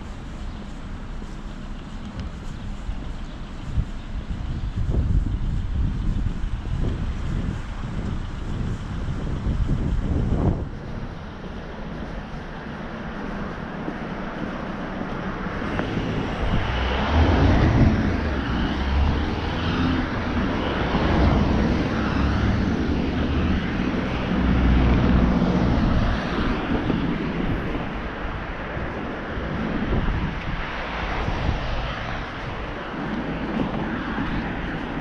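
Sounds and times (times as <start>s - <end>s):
cars passing: 0.0s - 35.0s.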